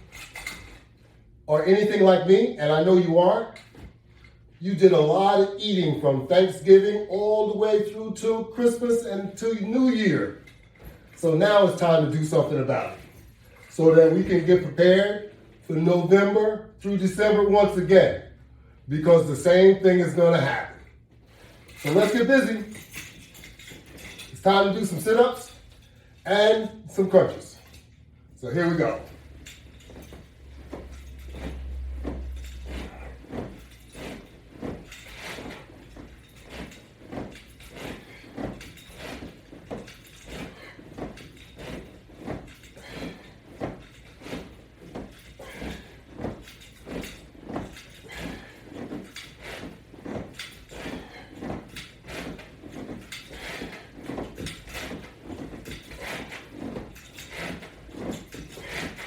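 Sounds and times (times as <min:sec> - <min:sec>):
exercise band strokes: 0:00.0 - 0:59.0.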